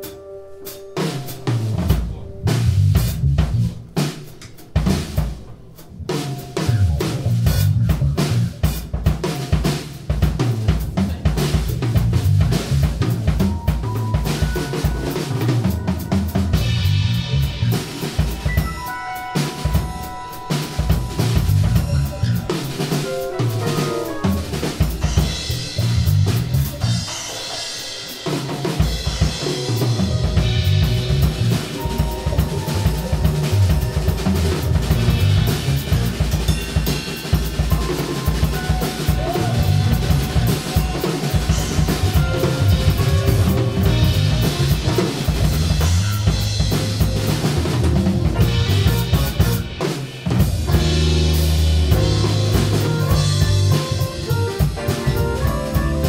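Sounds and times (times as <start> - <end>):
live band playing: 0.0 - 56.0
bass drum and snare hits: 6.2 - 18.7, 19.6 - 27.4, 28.4 - 56.0.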